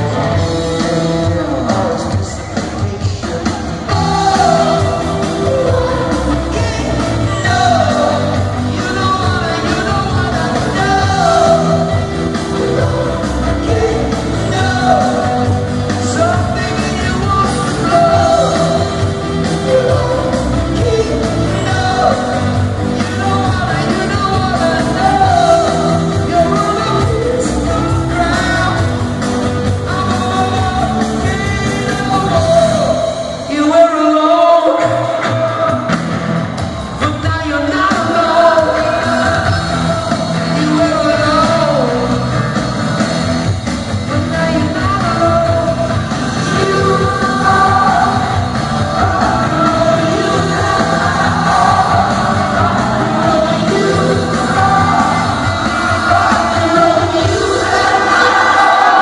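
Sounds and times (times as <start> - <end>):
drums: 0.0 - 59.0
electric guitar: 0.0 - 59.0
male lead vocal: 0.0 - 59.0.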